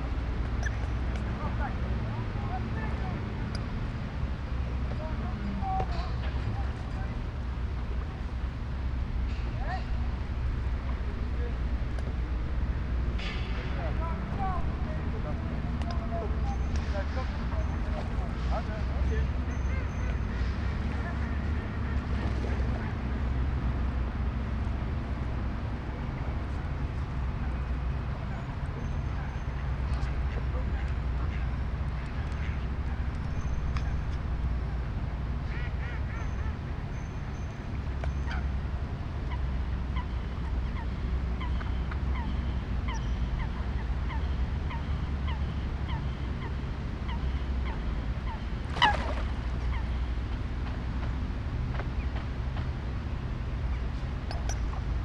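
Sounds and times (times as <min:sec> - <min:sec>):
distant traffic rumble: 0:00.0 - 0:55.0.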